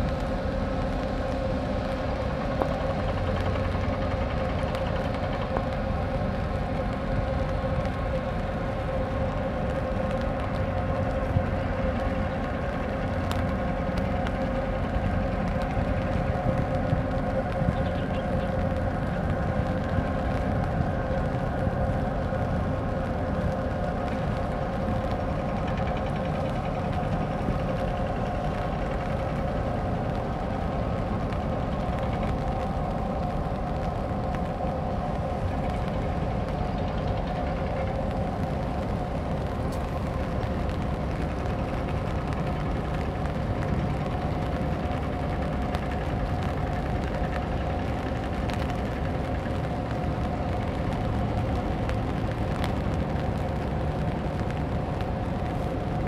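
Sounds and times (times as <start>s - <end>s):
machinery hum tones: 0.0s - 56.0s
ship engine low rumble: 0.0s - 56.0s.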